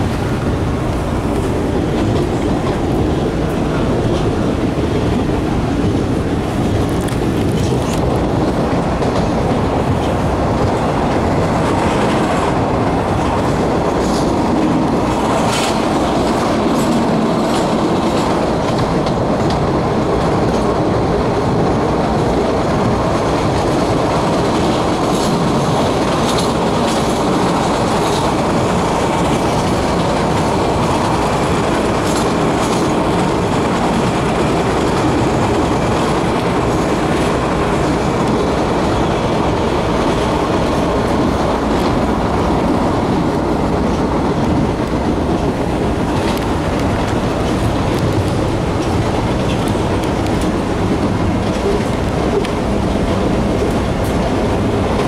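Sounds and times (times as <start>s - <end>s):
subway wheels rumbling on rail: 0.0s - 55.0s.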